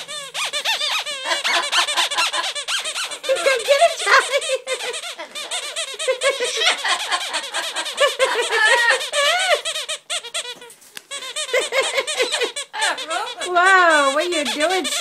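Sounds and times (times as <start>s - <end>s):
parrot laughing: 0.0s - 15.0s.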